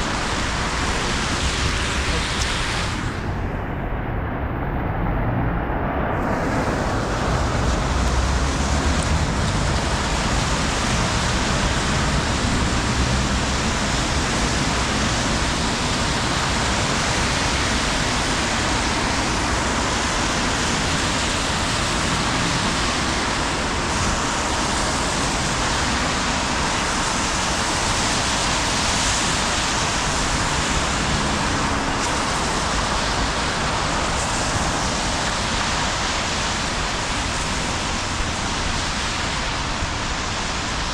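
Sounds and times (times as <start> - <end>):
rain hiss on street: 0.0 - 40.9
road traffic rumble: 0.0 - 40.9.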